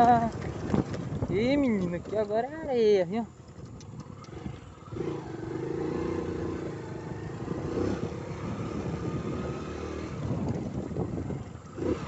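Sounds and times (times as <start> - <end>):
motorbike engine running: 0.0 - 12.0
wind and road noise: 0.0 - 12.0.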